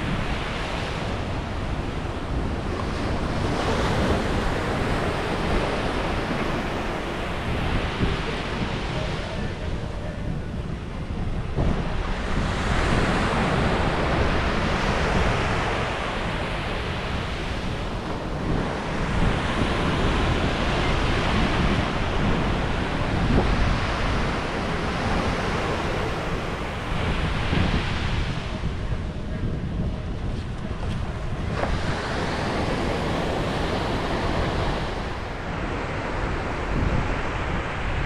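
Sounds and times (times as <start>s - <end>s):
ocean waves breaking on beach: 0.0s - 38.0s
wind rumbling on microphone: 0.0s - 38.0s.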